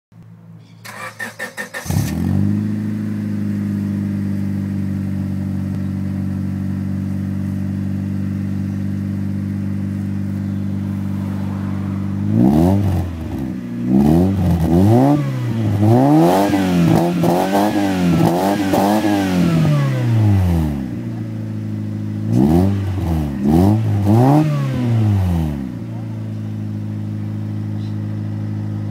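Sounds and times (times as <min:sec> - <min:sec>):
car engine idling: 0:00.2 - 0:28.9
car engine revving: 0:00.8 - 0:28.9.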